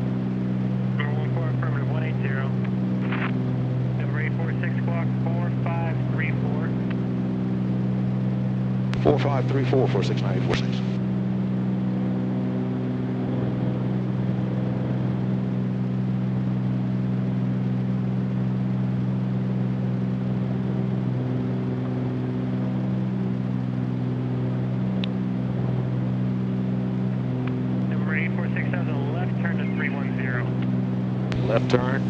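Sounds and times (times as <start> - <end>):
propeller aircraft engines droning: 0.0 - 32.0.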